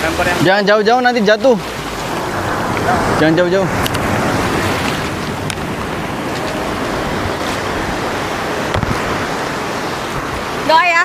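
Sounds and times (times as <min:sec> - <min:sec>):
waves washing over sand: 0:00.0 - 0:11.0
wind rumbling on microphone: 0:01.6 - 0:11.0.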